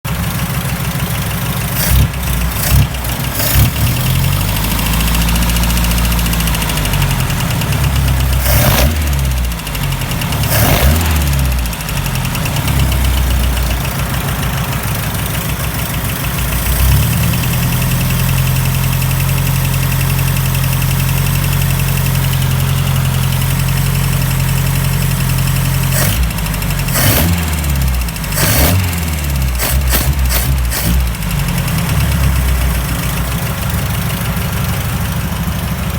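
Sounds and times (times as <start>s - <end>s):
car engine running: 0.0s - 35.9s
engine knocking: 0.0s - 35.9s.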